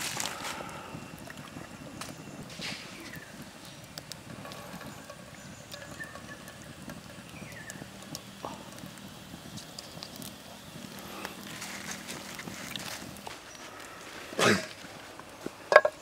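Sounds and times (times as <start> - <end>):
low hiss: 0.0 - 16.0
wood fire crackling: 0.0 - 16.0.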